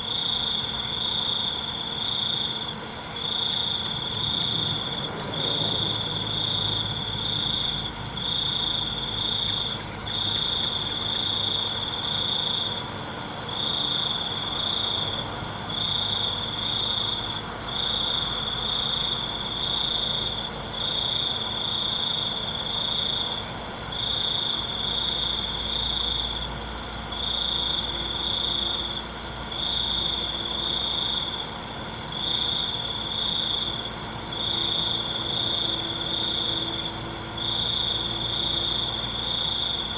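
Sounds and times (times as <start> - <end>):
loud high cricket trill: 0.0 - 39.9
steady high insect hum: 0.0 - 39.9.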